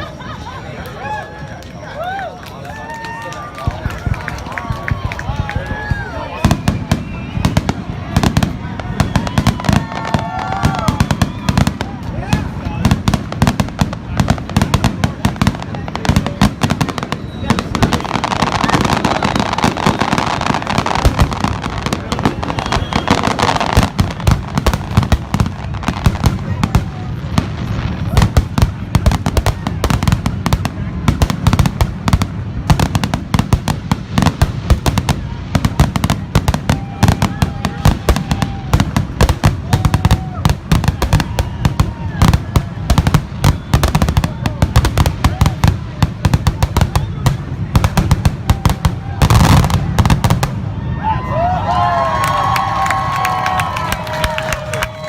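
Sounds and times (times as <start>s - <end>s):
fireworks bangs and crackle: 0.0s - 55.0s.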